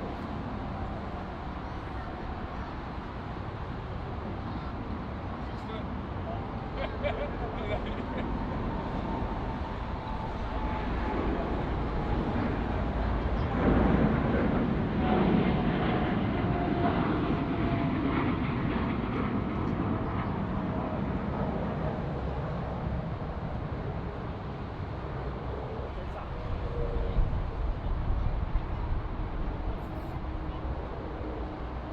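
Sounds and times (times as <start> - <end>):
jet engines of passing plane: 0.0 - 31.9.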